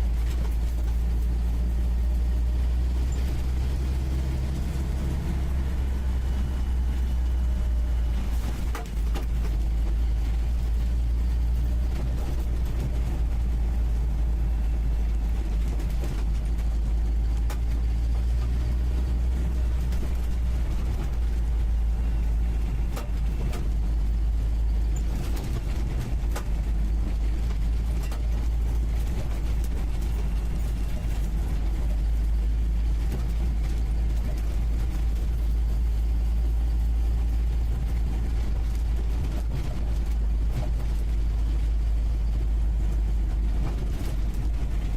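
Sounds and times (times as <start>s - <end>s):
body knocks and rattles: 0.0s - 3.8s, 6.1s - 44.9s
engine droning inside cab: 0.0s - 44.9s.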